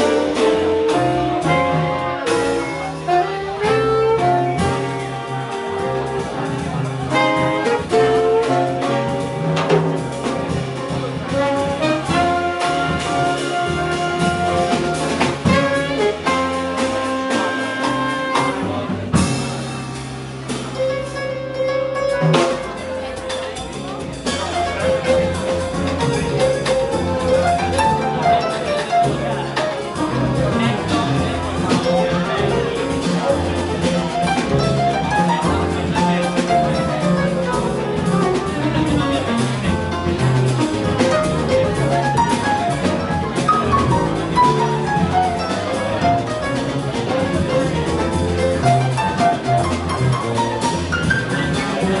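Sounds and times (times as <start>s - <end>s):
double bass: 0.0s - 52.0s
drum and cymbal accents: 0.0s - 52.0s
jazz band playing: 0.0s - 52.0s.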